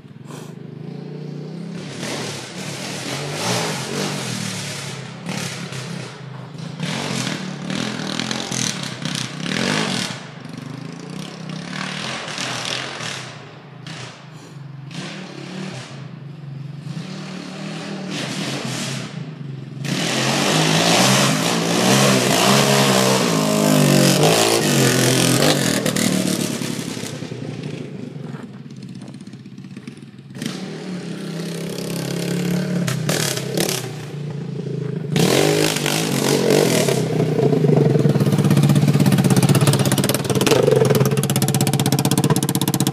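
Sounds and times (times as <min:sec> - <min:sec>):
quad engine revving: 0:00.3 - 0:28.2, 0:29.0 - 0:42.9.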